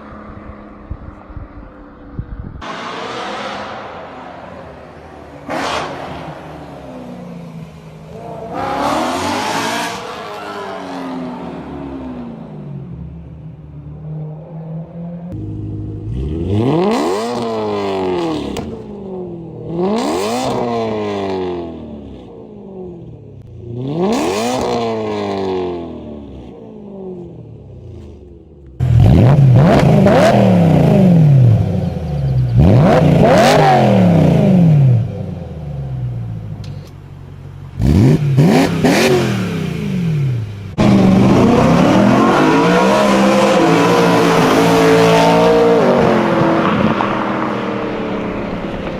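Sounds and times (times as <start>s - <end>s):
car engine revving: 2.6s - 13.2s, 13.9s - 36.7s, 37.3s - 48.9s.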